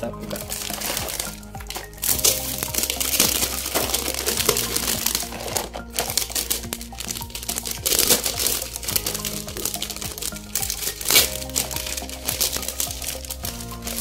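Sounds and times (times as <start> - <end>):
background music: 0.0 - 14.0
packaging crinkling: 0.0 - 14.0.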